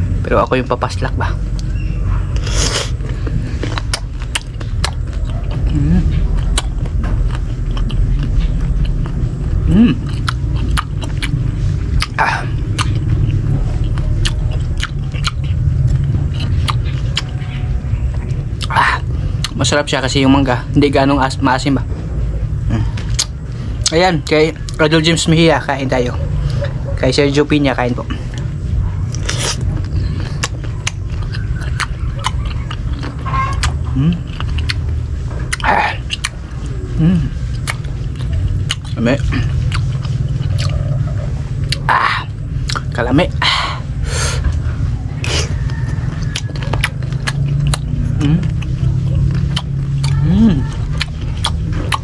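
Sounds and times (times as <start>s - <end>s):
steady low rumble: 0.0s - 52.0s
person crunching raw mango: 1.5s - 20.0s, 27.8s - 44.5s, 45.1s - 52.0s.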